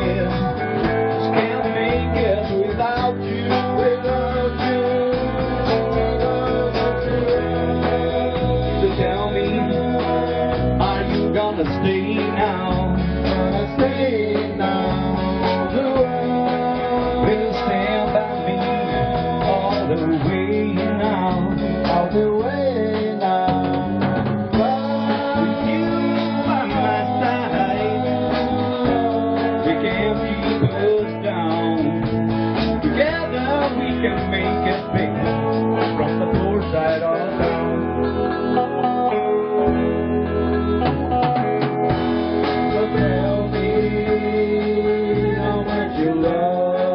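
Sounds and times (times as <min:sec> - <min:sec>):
guitar music: 0:00.0 - 0:46.9.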